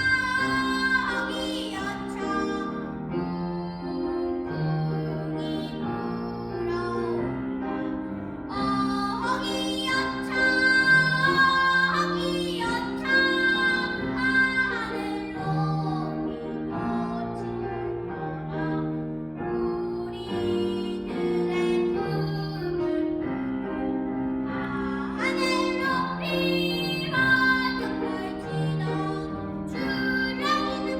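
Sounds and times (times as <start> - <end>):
child singing: 0.0 - 23.2, 24.6 - 30.9.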